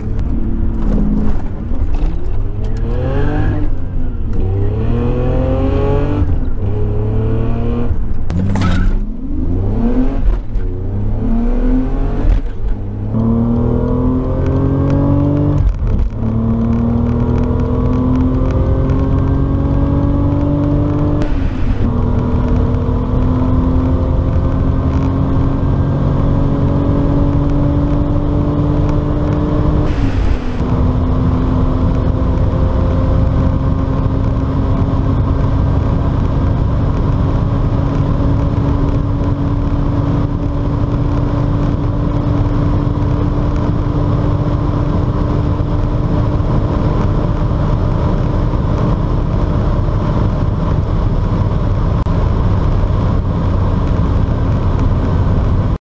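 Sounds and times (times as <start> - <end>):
car engine at full throttle: 0.0 - 55.8.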